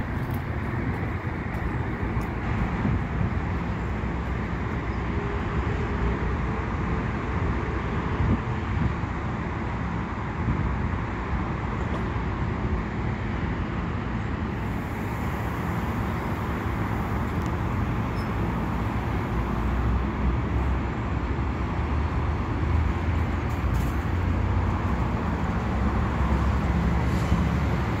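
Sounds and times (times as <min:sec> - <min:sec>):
train equipment rumble and hum: 0:00.0 - 0:28.0.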